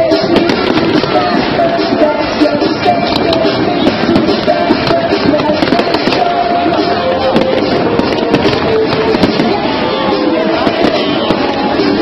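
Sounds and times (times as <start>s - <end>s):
fireworks bangs and crackles: 0.0s - 12.0s
music with long held notes: 0.0s - 12.0s.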